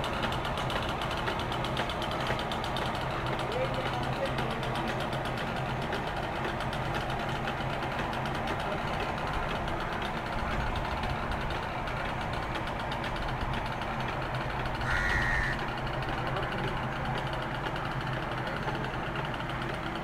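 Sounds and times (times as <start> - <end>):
two-stroke engine running: 0.0 - 20.0.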